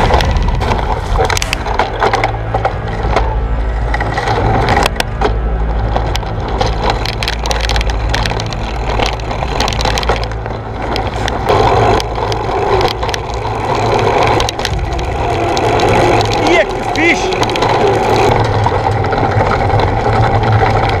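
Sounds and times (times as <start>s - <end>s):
low rumble: 0.0s - 21.0s
mountain bike rattling: 0.0s - 21.0s.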